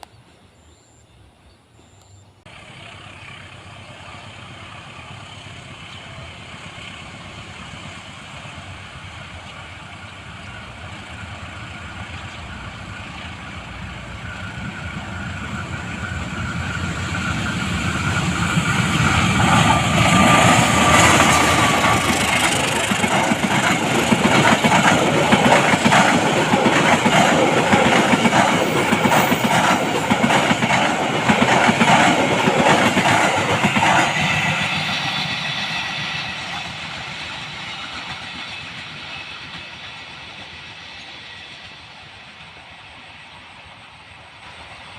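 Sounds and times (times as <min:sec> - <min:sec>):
train passing: 0:01.8 - 0:44.9.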